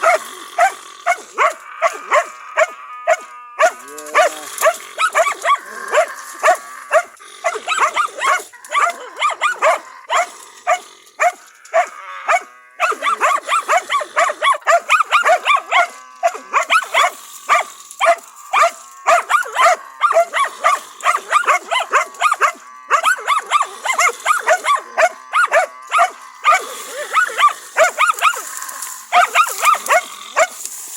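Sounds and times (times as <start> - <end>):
dog barking rapidly: 0.0 - 30.6.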